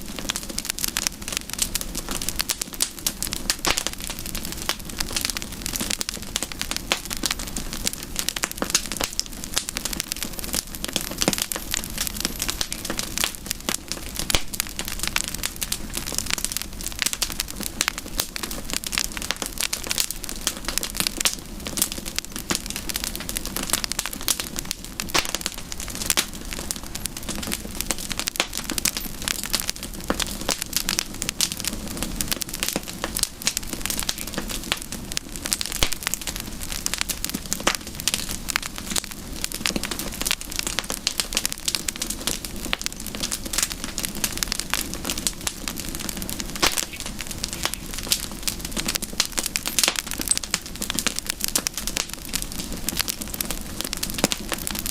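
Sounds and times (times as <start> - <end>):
campfire crackling and popping: 0.0 - 54.9
low hiss of fire: 0.0 - 54.9.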